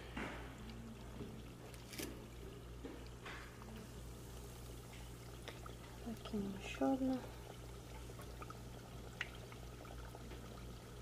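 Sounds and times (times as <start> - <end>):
oil bubbling and sizzling: 0.0 - 11.0
steady low hum: 0.0 - 11.0.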